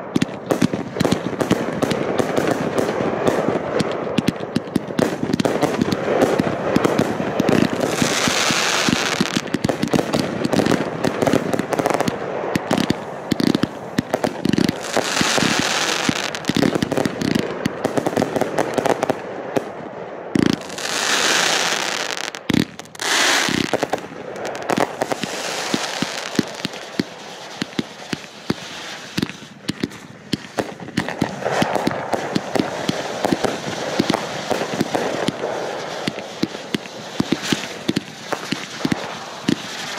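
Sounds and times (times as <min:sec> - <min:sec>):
fireworks crackling and popping: 0:00.0 - 0:39.9.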